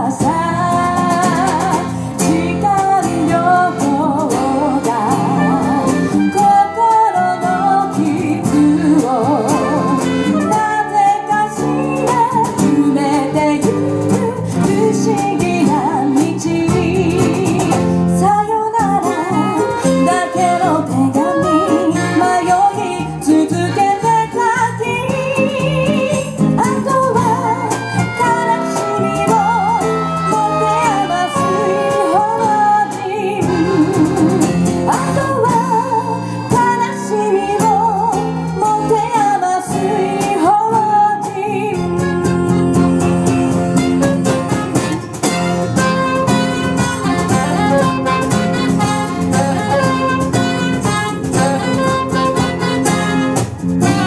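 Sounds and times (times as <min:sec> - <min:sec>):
accordion: 0:00.0 - 0:54.0
acoustic guitar: 0:00.0 - 0:54.0
electric bass: 0:00.0 - 0:54.0
woman singing: 0:00.0 - 0:54.0
saxophone: 0:00.1 - 0:40.4, 0:41.2 - 0:54.0.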